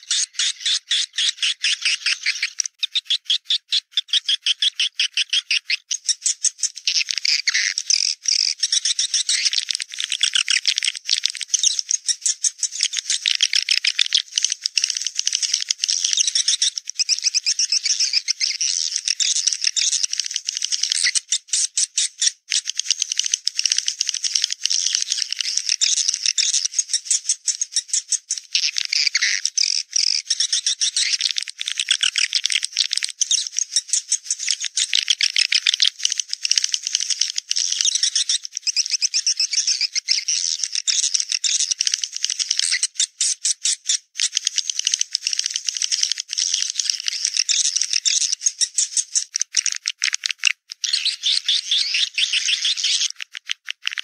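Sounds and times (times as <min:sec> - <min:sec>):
recorded bird twittering: 0:00.0 - 0:53.4.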